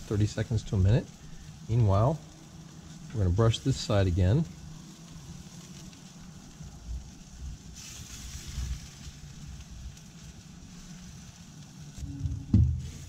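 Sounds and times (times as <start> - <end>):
gas grill rumbling: 0.0 - 13.0
sauce sizzling on grill: 0.0 - 13.0.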